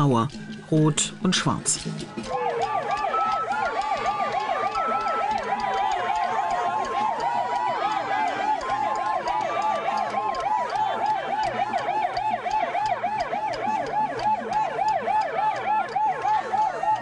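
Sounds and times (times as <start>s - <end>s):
ambulance siren yelping: 2.2s - 17.0s.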